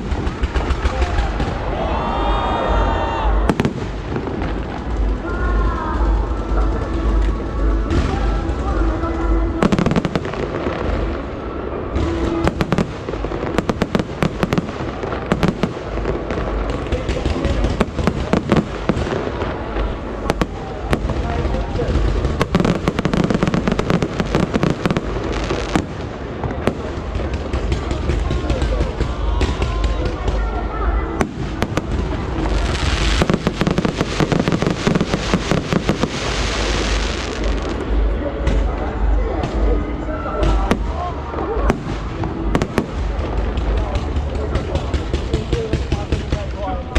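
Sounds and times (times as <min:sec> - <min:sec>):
low rumble: 0:00.0 - 0:45.2
fireworks cracking and banging: 0:00.0 - 0:46.9.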